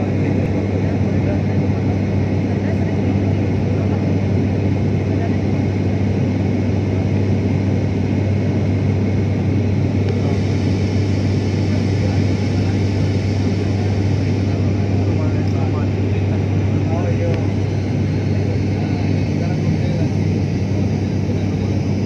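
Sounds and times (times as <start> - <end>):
airliner cabin engine drone: 0.0 - 22.0.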